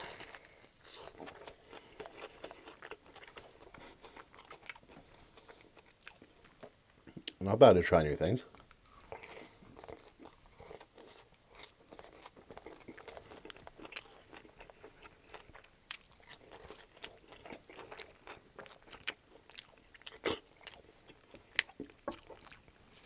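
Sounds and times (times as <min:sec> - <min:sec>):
wet crunching chewing: 0:00.0 - 0:07.4, 0:08.5 - 0:22.8.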